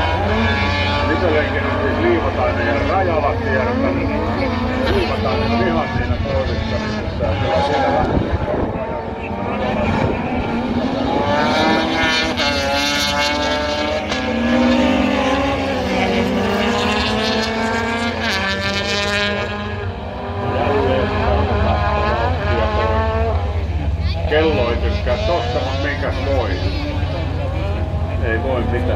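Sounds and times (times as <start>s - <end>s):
race car engine revving: 0.0s - 28.9s.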